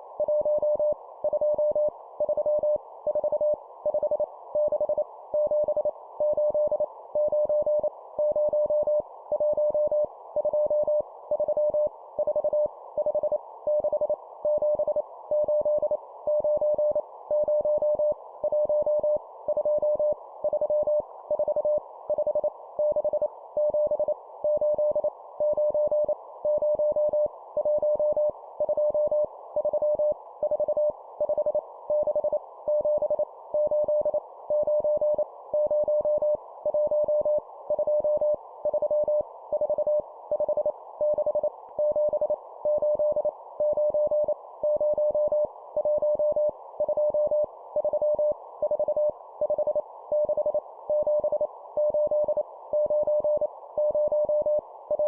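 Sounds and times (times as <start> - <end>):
morse code beeps: 4.6 - 55.0.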